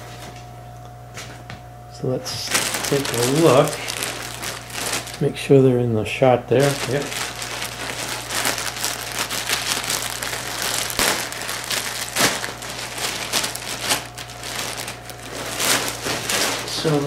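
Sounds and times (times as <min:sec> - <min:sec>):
plastic packaging crinkling: 0:02.1 - 0:17.0.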